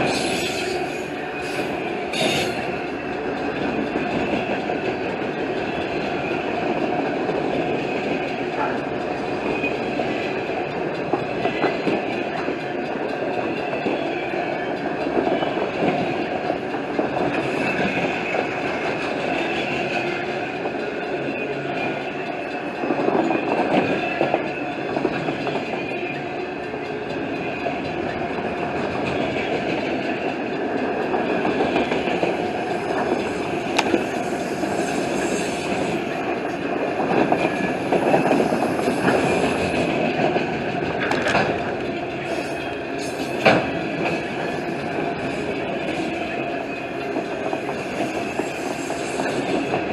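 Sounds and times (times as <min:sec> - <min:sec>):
freight train cars rolling past: 0:00.0 - 0:49.9.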